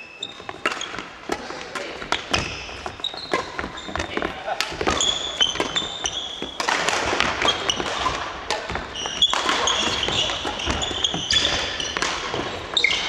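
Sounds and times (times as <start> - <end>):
sneakers squeaking on wooden floor: 0.0 - 13.0
rackets hitting shuttlecock: 0.2 - 13.0.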